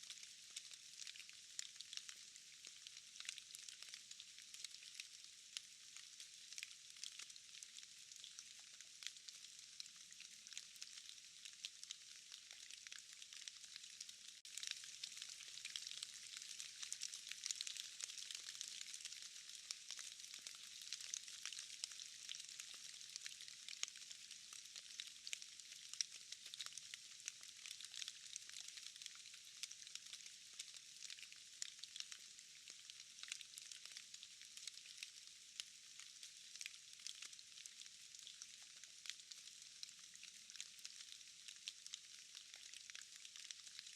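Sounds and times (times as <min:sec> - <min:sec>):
rain hissing in a forest: 0:00.0 - 0:43.9.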